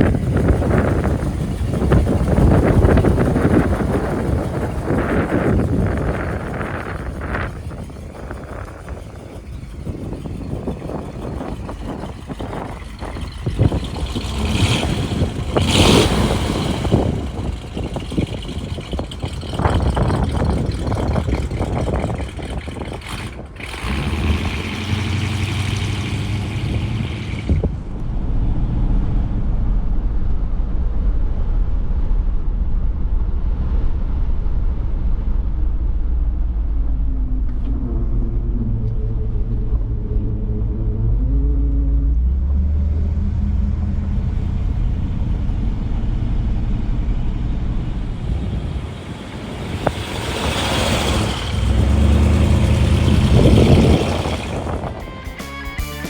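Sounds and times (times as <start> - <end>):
car engine running: 0.0 - 33.5, 34.1 - 56.0.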